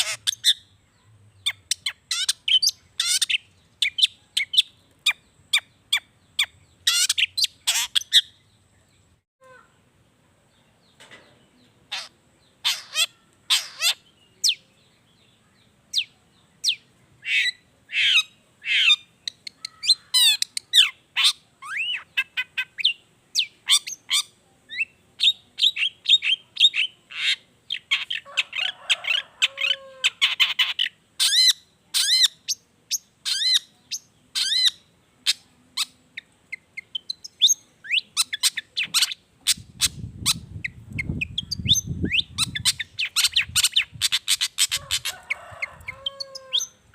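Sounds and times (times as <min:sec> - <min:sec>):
bird singing varied chirps: 0:00.0 - 0:09.8, 0:10.4 - 0:28.3, 0:29.4 - 0:46.9.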